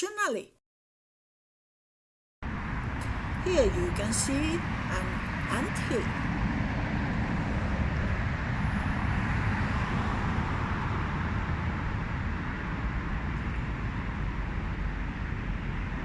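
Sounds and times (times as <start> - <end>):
steady low rumbling noise: 2.4 - 16.0.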